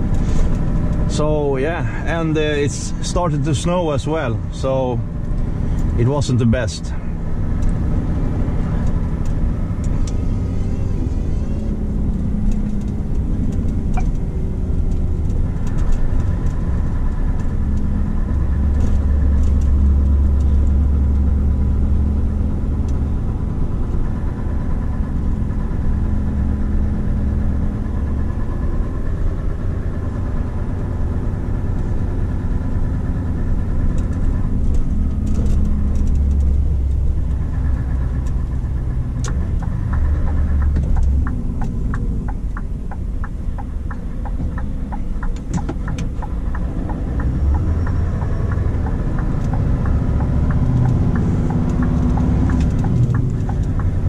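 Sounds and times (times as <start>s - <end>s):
diesel truck engine drone: 0.0s - 54.0s.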